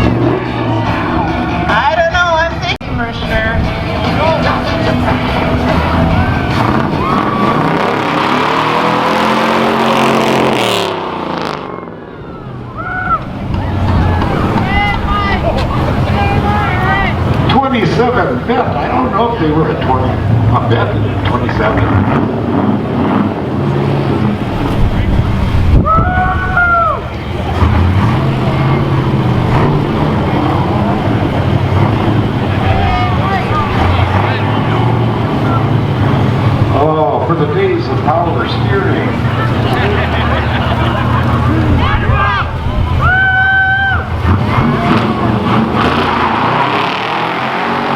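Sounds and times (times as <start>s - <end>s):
car engine revving: 0.0s - 12.6s, 13.2s - 47.9s
crowd chatter: 0.0s - 47.9s.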